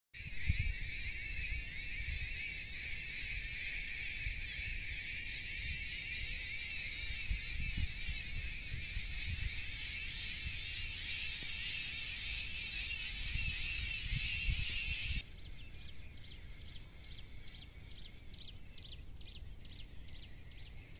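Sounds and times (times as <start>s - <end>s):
high repeating insect chirp: 0.2s - 20.9s
insects chirping: 0.2s - 20.9s
wind rumbling on microphone: 0.2s - 20.9s.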